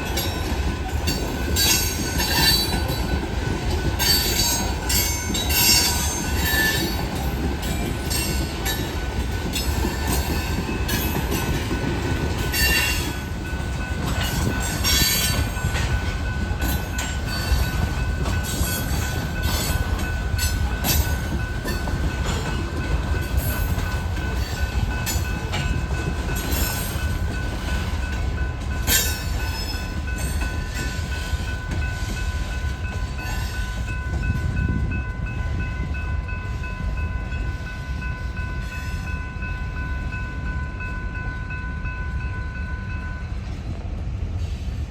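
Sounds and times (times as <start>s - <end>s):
train rumbling past: 0.0s - 44.9s.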